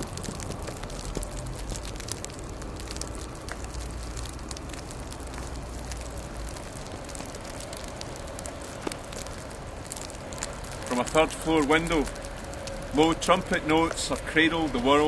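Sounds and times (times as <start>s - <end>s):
falling snow pattering: 0.0s - 15.0s.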